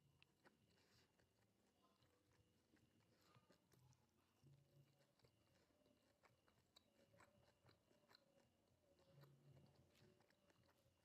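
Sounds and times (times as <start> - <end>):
chewing crispy food: 0.0 - 11.0.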